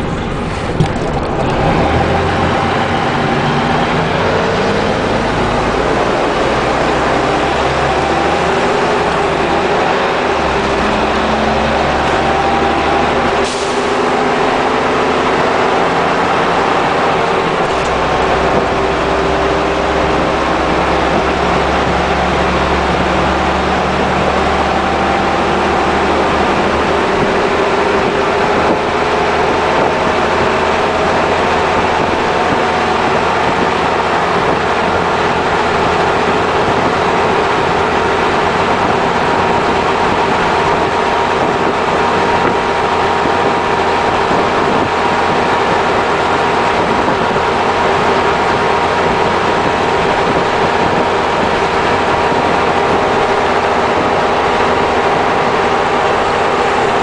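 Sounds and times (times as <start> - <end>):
bus engine under load: 0.0 - 57.0
road noise: 0.0 - 57.0.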